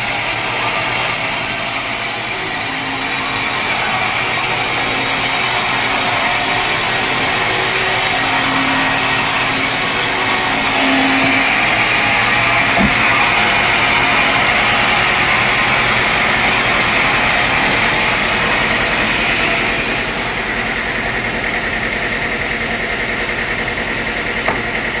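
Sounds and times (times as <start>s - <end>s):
saw whining: 0.0s - 22.2s, 24.1s - 25.0s.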